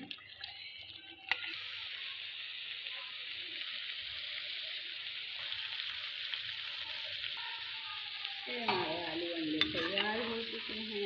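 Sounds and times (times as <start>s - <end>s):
eggs and potatoes sizzling: 0.0s - 11.0s.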